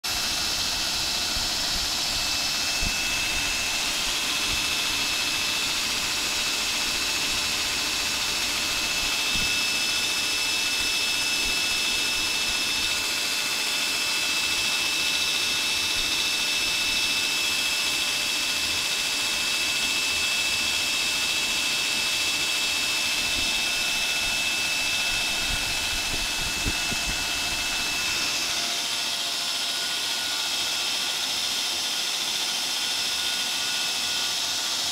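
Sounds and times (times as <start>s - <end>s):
belt grinder running: 0.0s - 34.9s
high whine from grinder belt: 0.0s - 34.9s.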